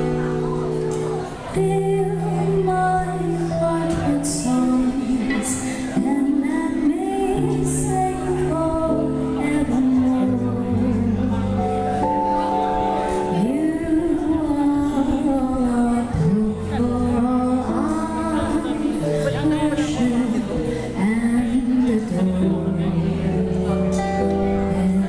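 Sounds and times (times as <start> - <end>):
live band playing: 0.0 - 25.0
woman singing: 1.4 - 12.0, 13.2 - 25.0.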